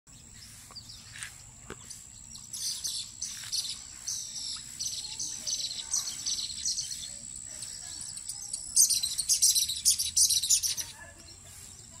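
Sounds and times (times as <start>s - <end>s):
birds chirping and calling: 0.1s - 12.0s.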